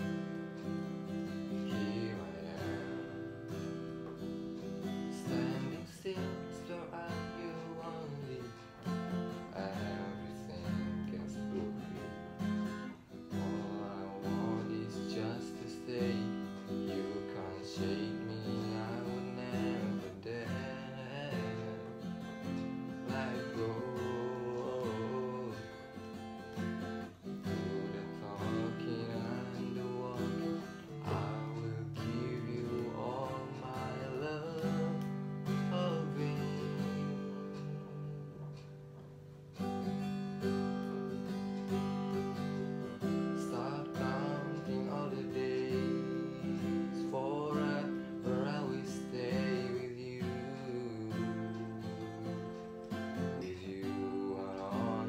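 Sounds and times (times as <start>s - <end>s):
man singing: 0.0s - 39.0s, 39.6s - 55.0s
acoustic guitar: 0.0s - 55.0s.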